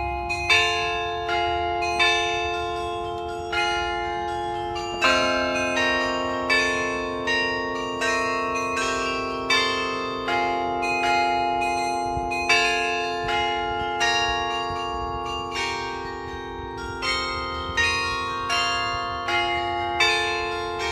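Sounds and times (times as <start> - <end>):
tower bells playing slow melody: 0.0 - 20.9.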